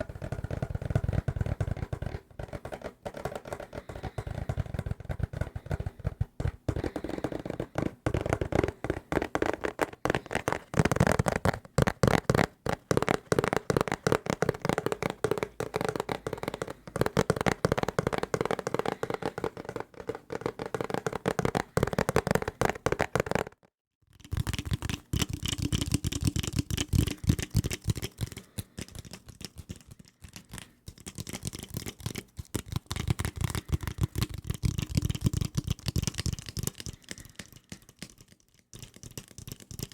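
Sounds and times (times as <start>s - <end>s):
fast tapping on desk objects: 0.0s - 39.9s.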